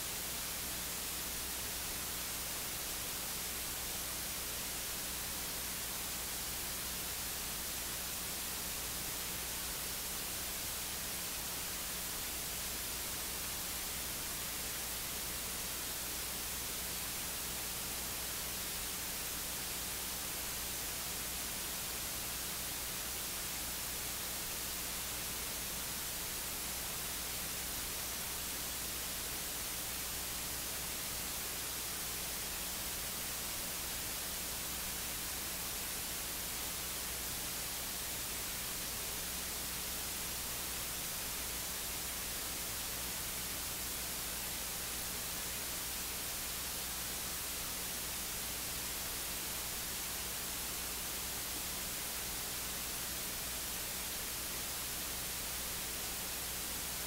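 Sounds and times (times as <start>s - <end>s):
electronic static hiss: 0.0s - 57.0s.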